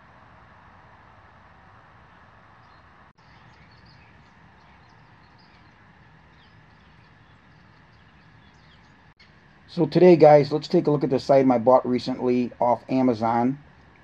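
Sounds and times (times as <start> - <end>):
faint background hiss: 0.0 - 14.0
distant bird chirps: 2.0 - 14.0.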